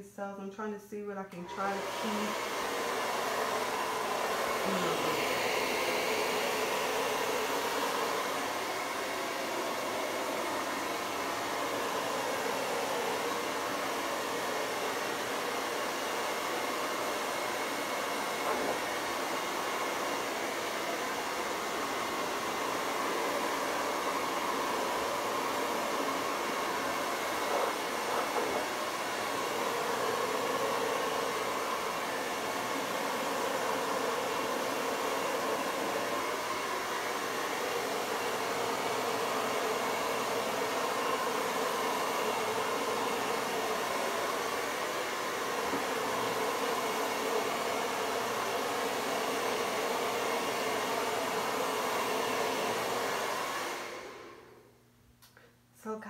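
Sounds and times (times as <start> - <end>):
hair dryer blowing: 1.3 - 56.0.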